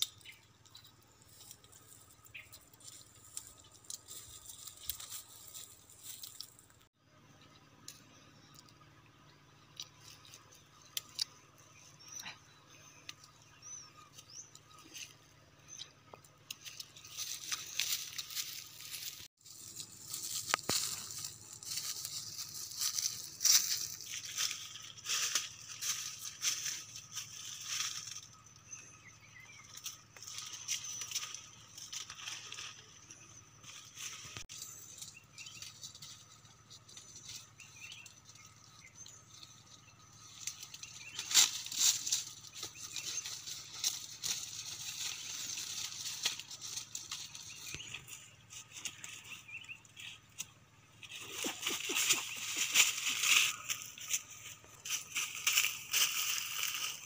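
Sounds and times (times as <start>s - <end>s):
dry leaves rustling and crackling: 0.0s - 6.9s, 13.9s - 57.0s.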